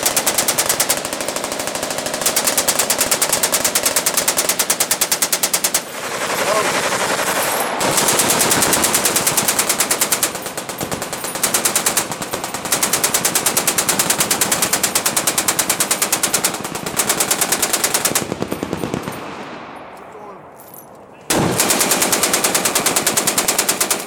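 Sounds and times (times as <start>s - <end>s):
machine gun firing bursts: 0.0s - 19.5s, 21.3s - 24.0s.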